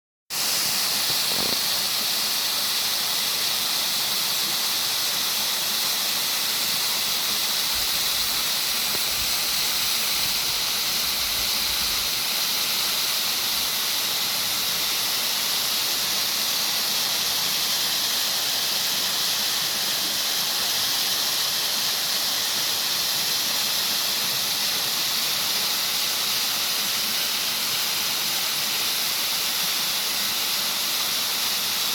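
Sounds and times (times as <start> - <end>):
steady hiss: 0.4 - 31.9.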